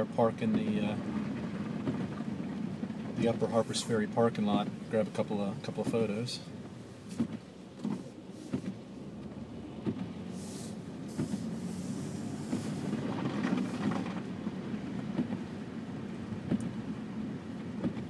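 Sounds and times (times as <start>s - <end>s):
tyre and road rumble: 0.0s - 18.0s.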